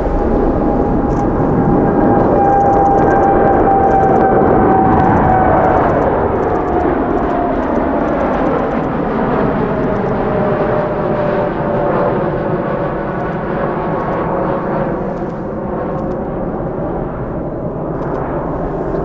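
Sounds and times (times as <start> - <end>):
jet engine roar with whine: 0.0 - 19.0.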